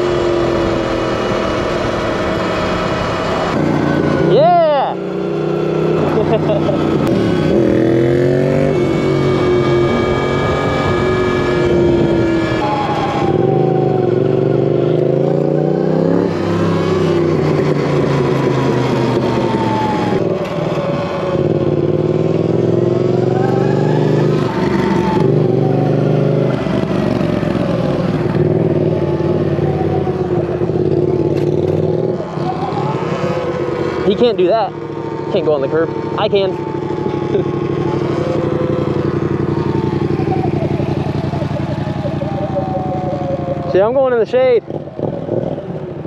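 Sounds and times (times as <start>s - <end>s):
motorcycles riding: 0.0s - 46.0s.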